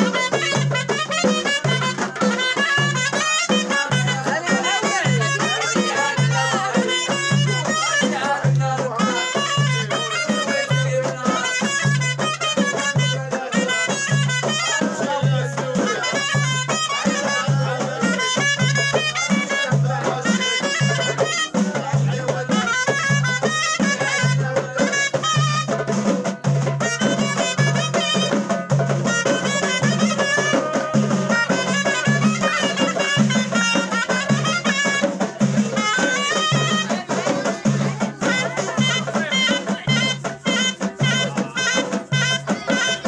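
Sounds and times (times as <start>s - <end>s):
frame drums beating: 0.0s - 43.0s
wind instrument melody: 0.0s - 43.0s.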